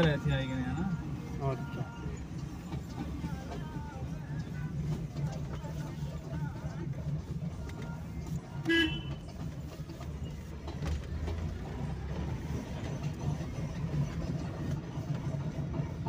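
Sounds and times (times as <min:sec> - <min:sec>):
car engine low hum: 0:00.0 - 0:16.0.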